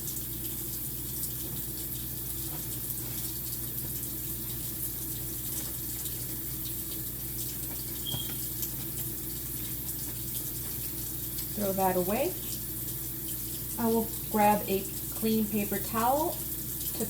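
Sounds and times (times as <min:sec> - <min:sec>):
faucet water running into sink: 0:00.0 - 0:17.0.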